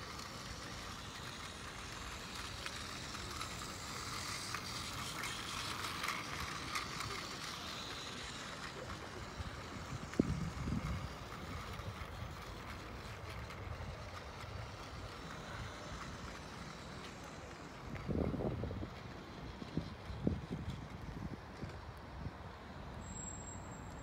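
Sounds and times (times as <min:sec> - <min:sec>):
distant traffic: 0:00.0 - 0:24.0.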